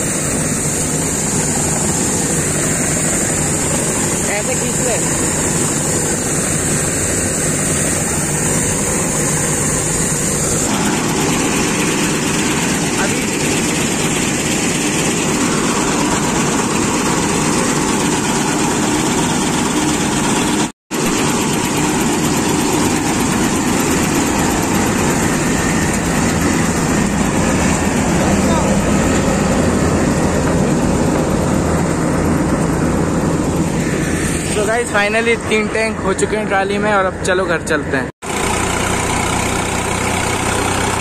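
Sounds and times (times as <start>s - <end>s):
combine harvester running: 0.0s - 41.0s.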